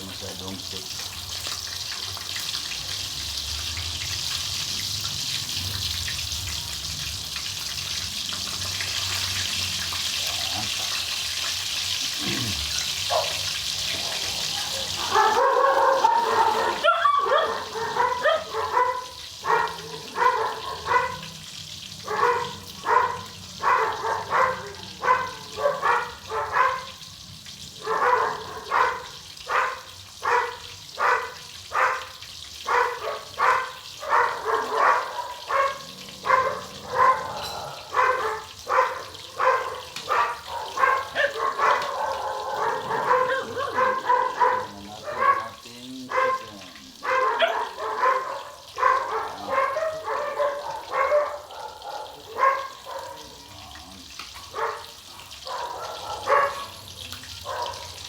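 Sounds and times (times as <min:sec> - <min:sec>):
dog barking: 0:10.0 - 0:58.0.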